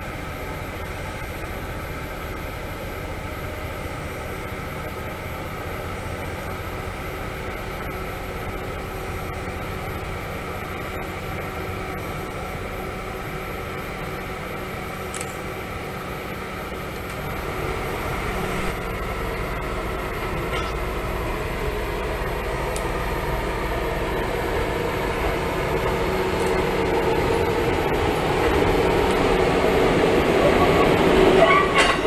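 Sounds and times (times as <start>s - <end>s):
diesel train engines droning: 0.0s - 32.0s.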